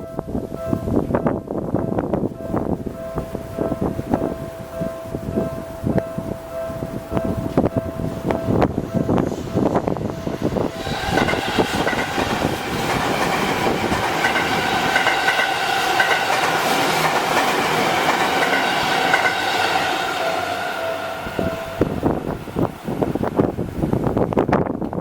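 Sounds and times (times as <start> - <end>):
high whine of train: 0.0 - 25.0
train wheel noise: 0.0 - 25.0
crossing alarm ringing: 1.9 - 22.7.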